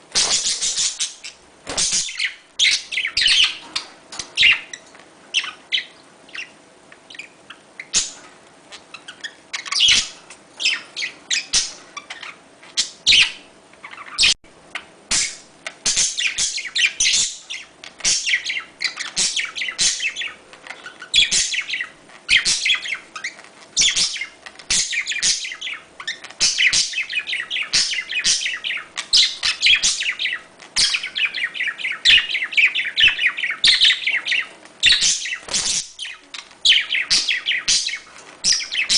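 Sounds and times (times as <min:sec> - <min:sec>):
budgerigars chirping: 0:00.1 - 0:38.9.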